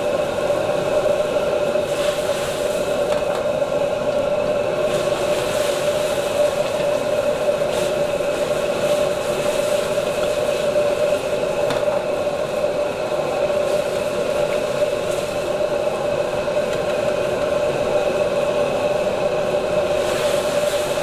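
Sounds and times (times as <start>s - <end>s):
gas flame roaring: 0.0s - 21.0s.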